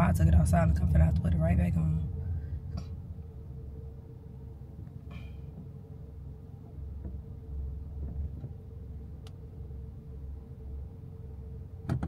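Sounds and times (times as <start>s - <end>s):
car cabin rumble: 0.0s - 12.0s
faint hum: 0.0s - 12.0s.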